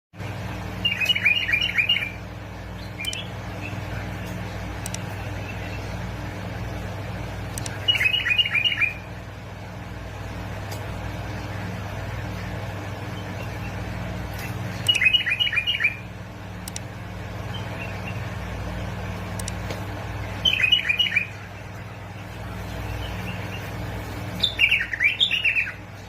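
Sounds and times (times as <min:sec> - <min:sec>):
bulbul singing: 0:00.2 - 0:26.0
steady low hum: 0:00.2 - 0:26.0.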